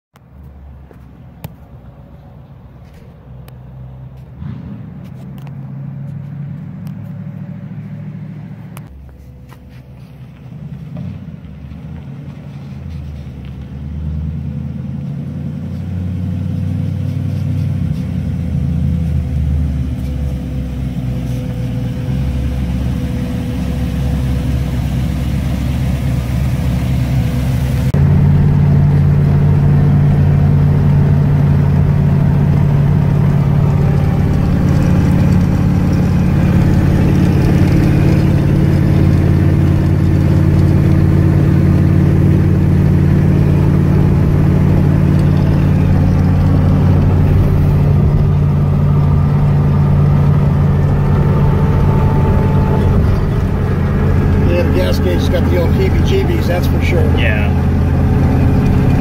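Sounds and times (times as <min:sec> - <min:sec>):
truck engine running: 0:00.2 - 0:59.0.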